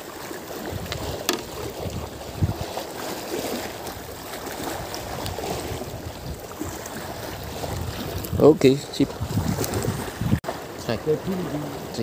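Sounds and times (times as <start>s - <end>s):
wind buffeting microphone: 0.5s - 12.0s.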